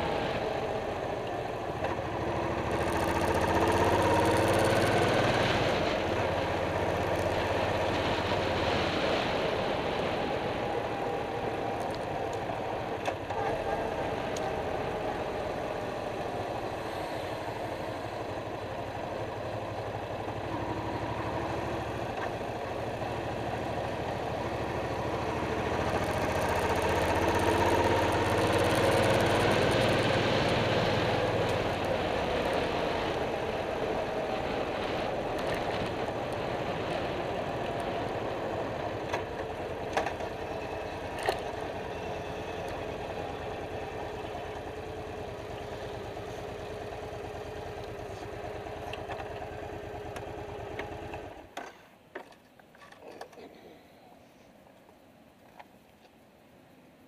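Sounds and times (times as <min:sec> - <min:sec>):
motorcycle engine accelerating: 0:00.0 - 0:51.5.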